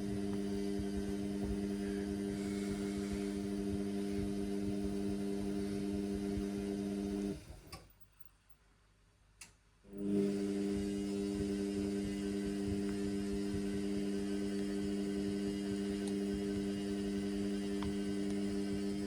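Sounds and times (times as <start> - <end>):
washing machine pump humming: 0.0 - 7.7, 9.8 - 19.0.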